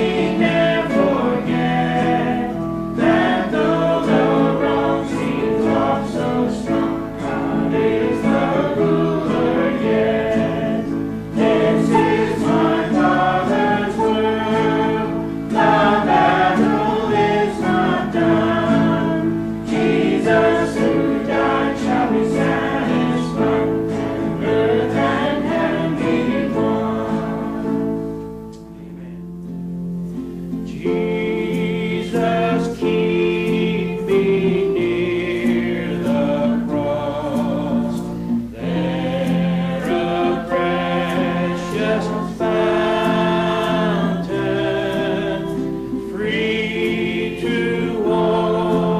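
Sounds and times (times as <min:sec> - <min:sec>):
choir singing a gospel hymn: 0:00.0 - 0:29.4, 0:30.1 - 0:48.9
instrumental accompaniment: 0:00.0 - 0:48.9.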